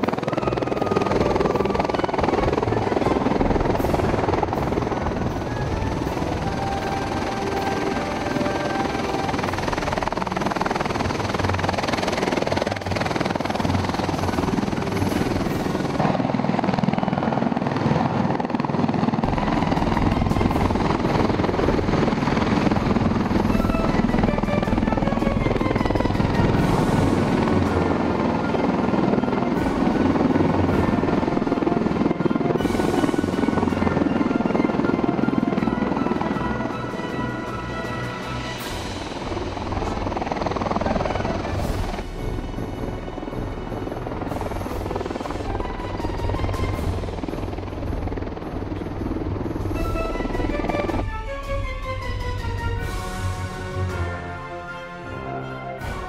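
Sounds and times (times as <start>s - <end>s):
music playing: 0.0s - 56.0s
tilt-rotor aircraft hovering: 0.0s - 56.0s.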